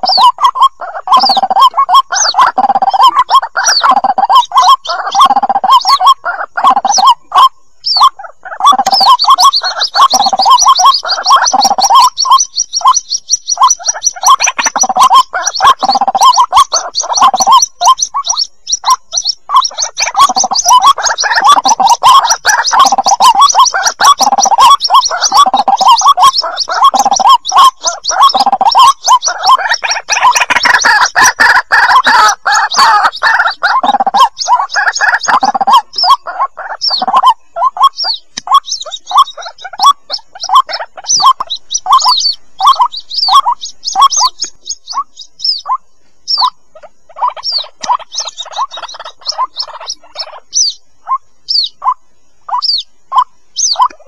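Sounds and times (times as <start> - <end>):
chicks calling rapidly: 0.0 - 54.0
high-pitched peeping: 0.0 - 54.0.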